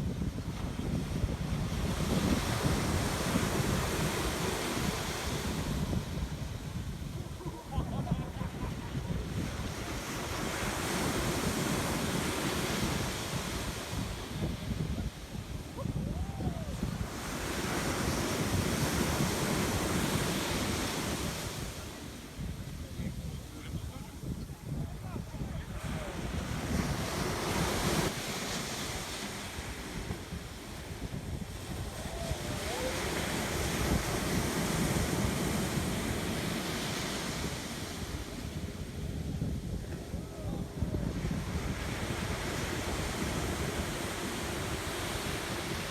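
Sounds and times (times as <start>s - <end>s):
surf washing up beach: 0.0s - 45.9s
wind rumbling on microphone: 0.0s - 45.9s.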